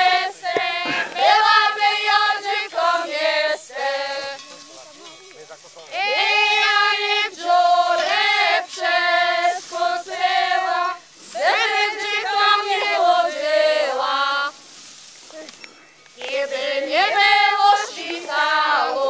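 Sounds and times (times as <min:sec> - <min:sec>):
women singing unaccompanied: 0:00.0 - 0:04.4, 0:05.9 - 0:14.7, 0:16.1 - 0:19.0.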